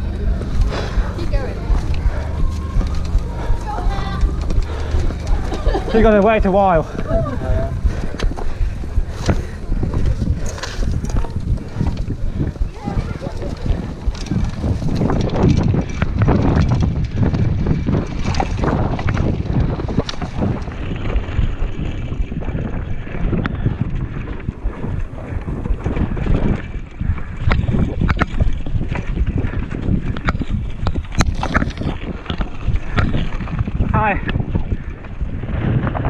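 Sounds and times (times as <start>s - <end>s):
bike clicks and knocks: 0.0s - 7.2s, 7.8s - 22.6s, 23.3s - 35.2s
tyres rolling over dirt and gravel: 0.0s - 35.9s
bike rattling: 0.0s - 36.0s
wind buffeting microphone: 0.0s - 36.0s.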